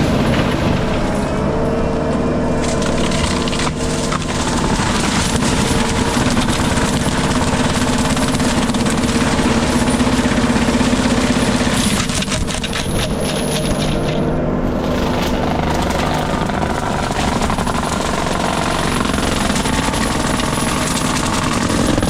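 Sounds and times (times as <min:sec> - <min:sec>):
diesel engine drone: 0:00.0 - 0:22.0
mulcher grinding wood: 0:00.0 - 0:22.0.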